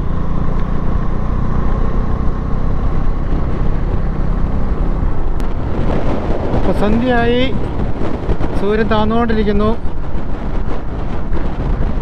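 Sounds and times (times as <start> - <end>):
motorcycle engine drone: 0.0 - 12.0
wind rush on microphone: 0.0 - 12.0.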